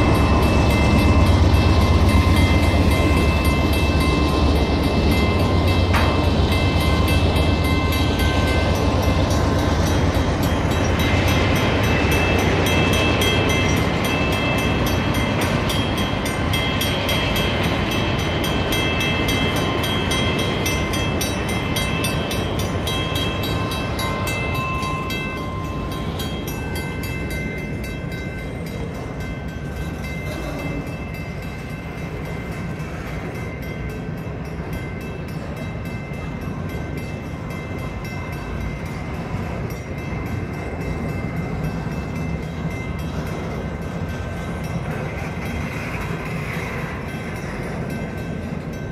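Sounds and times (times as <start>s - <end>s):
freight train rumbling on rails: 0.0s - 48.9s.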